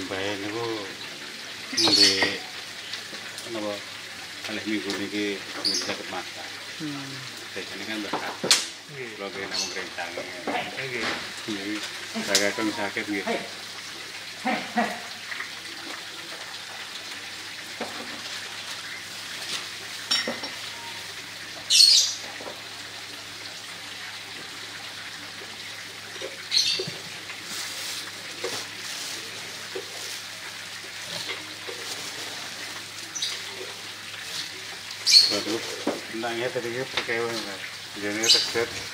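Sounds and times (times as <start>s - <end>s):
broth bubbling in a wok: 0.0s - 38.9s.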